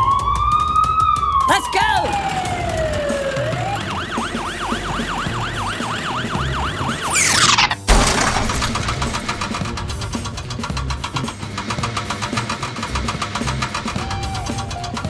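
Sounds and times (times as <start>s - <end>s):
rapid rattling noise: 2.6s - 15.0s.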